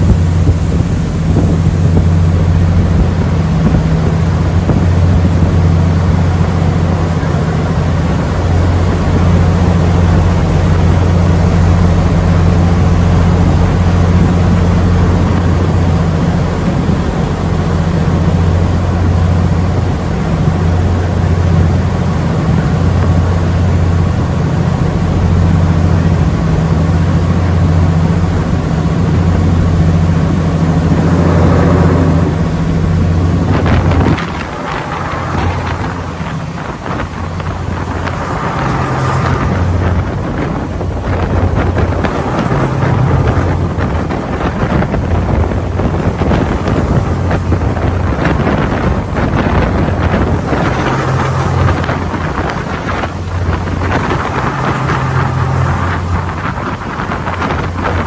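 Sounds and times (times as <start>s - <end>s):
rushing wash of water: 0.0s - 58.0s
ship diesel engines droning: 0.0s - 58.0s.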